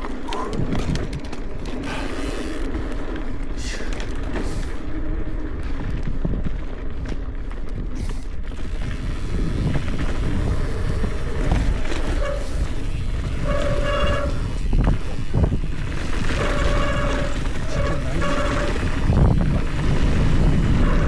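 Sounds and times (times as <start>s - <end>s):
bike tyres and rattle: 0.0s - 21.0s
wind buffeting microphone: 0.0s - 21.0s.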